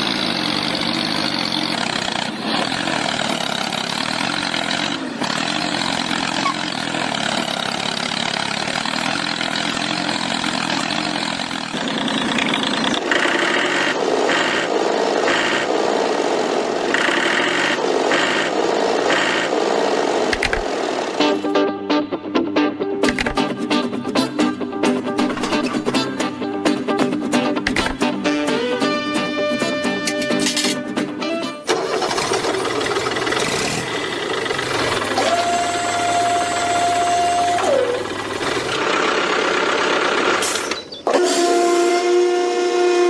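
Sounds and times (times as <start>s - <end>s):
engine running: 0.0s - 43.0s.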